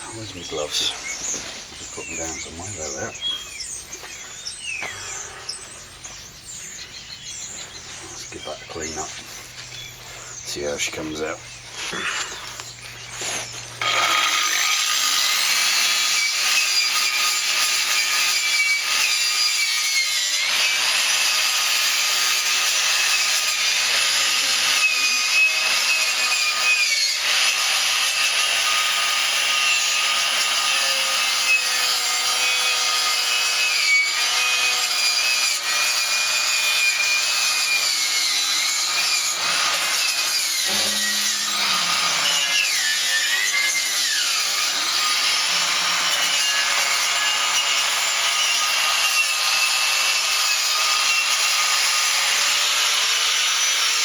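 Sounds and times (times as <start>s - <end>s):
wire wheel grinder brushing steel: 10.4s - 54.0s.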